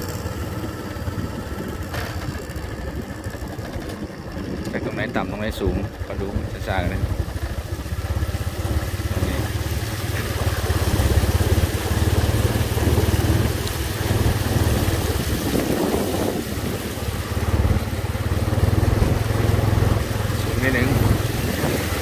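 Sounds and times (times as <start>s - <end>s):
rushing water and wind: 0.0s - 22.0s
small motorbike engine running: 0.0s - 22.0s.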